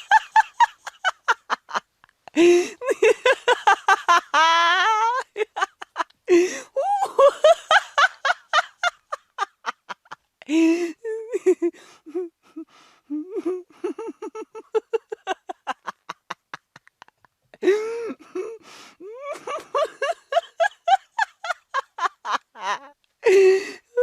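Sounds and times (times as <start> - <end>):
woman laughing: 0.0 - 24.0.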